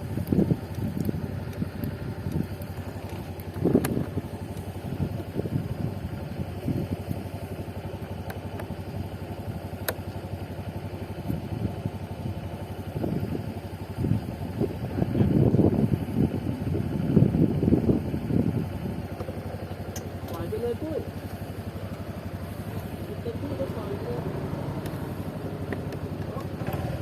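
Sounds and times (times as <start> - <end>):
road and wind noise: 0.0 - 27.0
scooter engine droning: 0.0 - 27.0.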